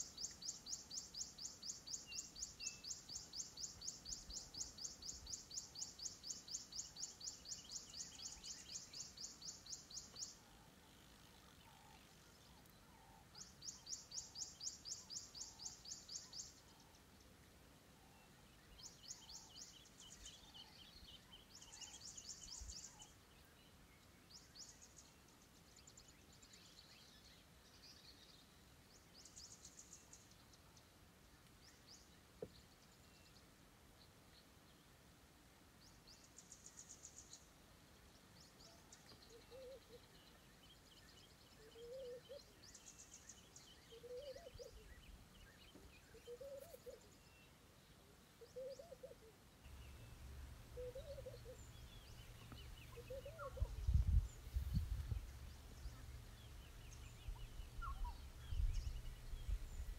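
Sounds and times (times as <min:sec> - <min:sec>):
faint outdoor hiss: 0:00.0 - 0:59.9.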